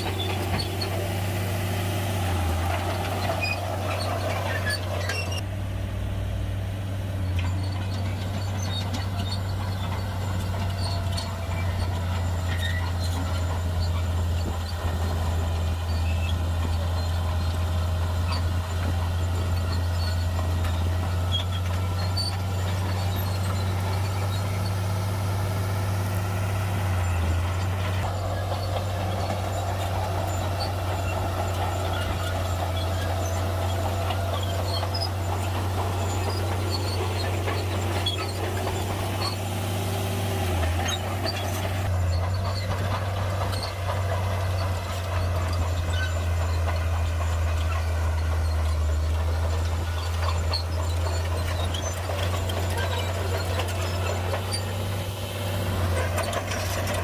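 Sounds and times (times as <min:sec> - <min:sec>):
bulldozer diesel engine droning: 0:00.0 - 0:57.0
rough higher engine noise: 0:00.0 - 0:57.0.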